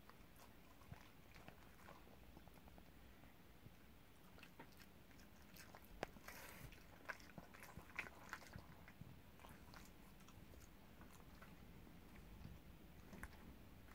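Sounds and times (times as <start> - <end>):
dog chewing: 0.0 - 3.0, 4.2 - 13.9.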